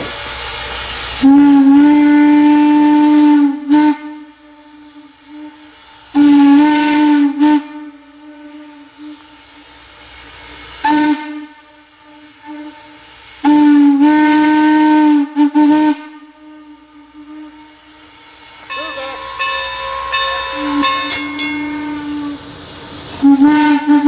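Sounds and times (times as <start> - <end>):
steam hissing: 0.0 - 24.0
steam whistle blasts: 1.1 - 9.6, 10.7 - 24.0.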